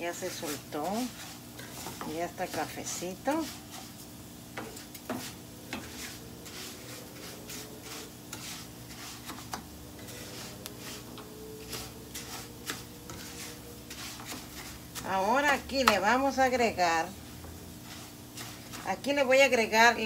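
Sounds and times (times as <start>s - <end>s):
rice scraping in frying pan: 0.0s - 20.0s.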